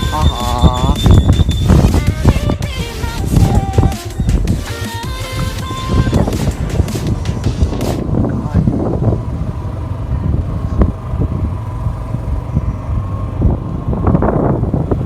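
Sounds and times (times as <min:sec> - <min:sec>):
motorbike engine rumble: 0:00.0 - 0:15.0
wind buffeting microphone: 0:00.0 - 0:15.0.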